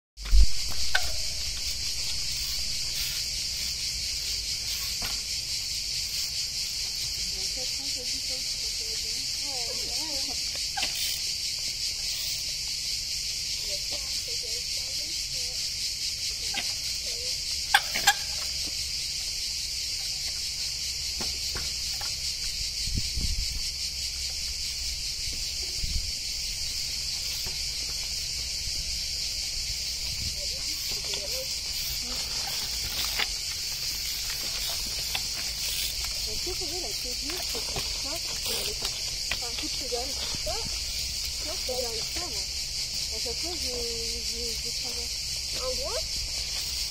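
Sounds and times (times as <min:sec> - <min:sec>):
insects chirring: 0:00.2 - 0:46.9.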